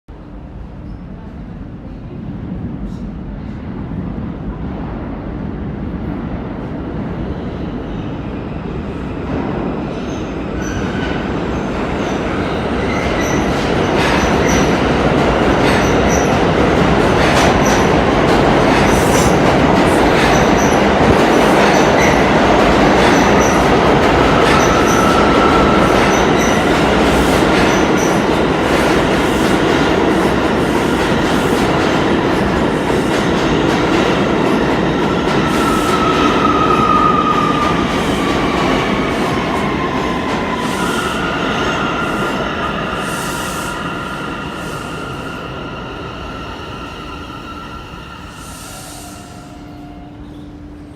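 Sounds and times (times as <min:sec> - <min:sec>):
subway train running: 0:00.1 - 0:50.9.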